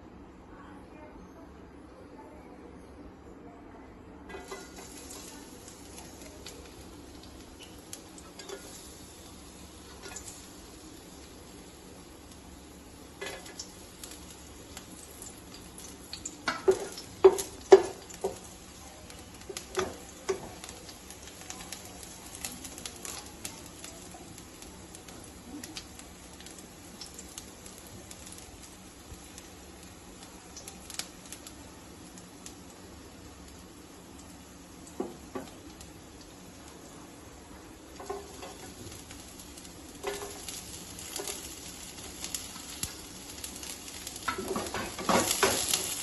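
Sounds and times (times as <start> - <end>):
food frying in oil: 4.3 - 46.0.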